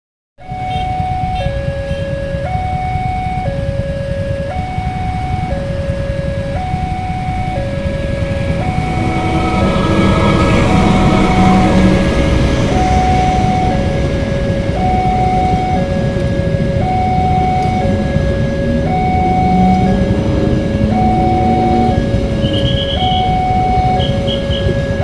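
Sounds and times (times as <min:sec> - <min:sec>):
two-tone crossing alarm: 0:00.4 - 0:25.0
passing train rumble: 0:01.5 - 0:25.0.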